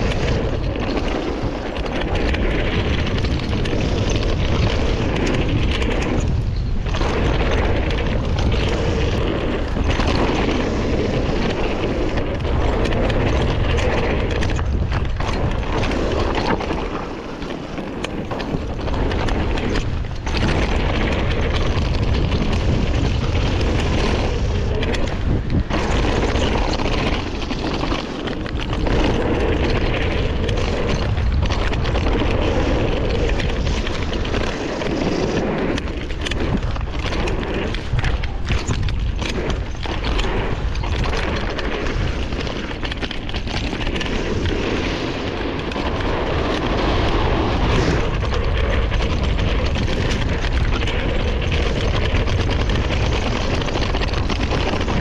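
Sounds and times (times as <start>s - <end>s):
bike tyre and trail noise: 0.0s - 55.0s
wind buffeting microphone: 0.0s - 55.0s.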